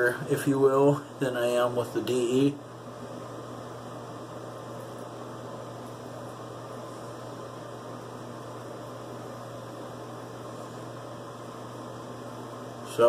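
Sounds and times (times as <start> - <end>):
steady low hum with hiss: 0.0 - 13.0.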